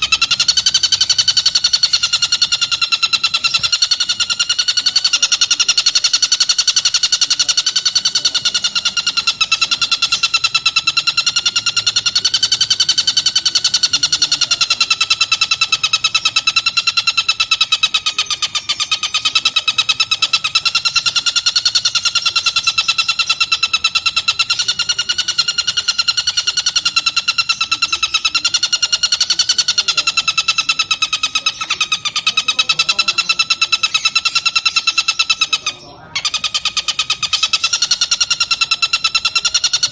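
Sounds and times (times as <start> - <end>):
kingfisher rapid trill: 0.0 - 39.9.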